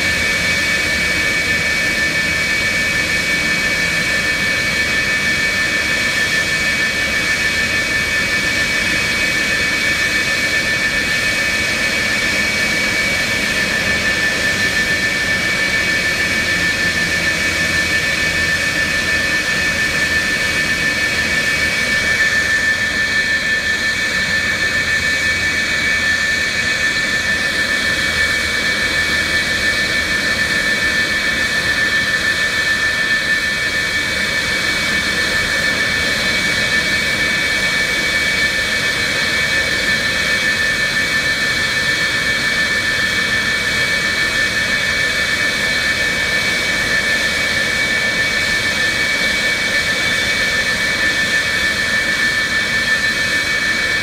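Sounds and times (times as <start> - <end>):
jet engine roar with turbine whine: 0.0 - 54.0.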